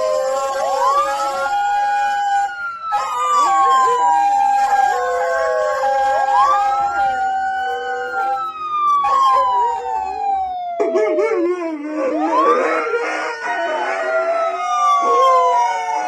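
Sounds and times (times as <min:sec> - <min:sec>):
dogs howling: 0:00.0 - 0:16.0
sirens wailing: 0:00.0 - 0:16.0.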